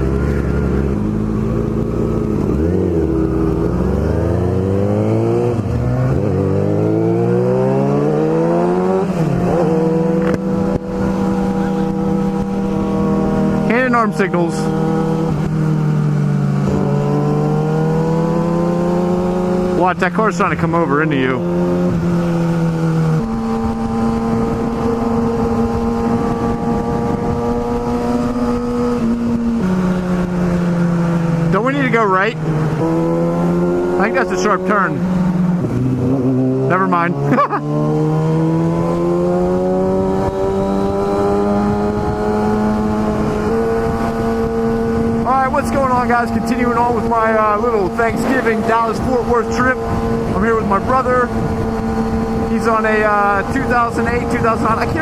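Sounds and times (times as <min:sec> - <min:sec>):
wind rushing past microphone: 0:00.0 - 0:19.8, 0:21.3 - 0:55.0
motorcycle engine accelerating: 0:00.0 - 0:55.0.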